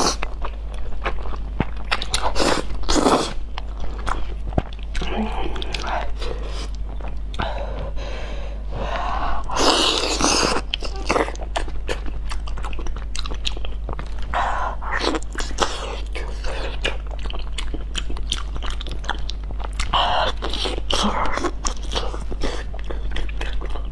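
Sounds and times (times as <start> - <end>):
wet chewing of food: 0.0 - 8.6, 9.4 - 23.9.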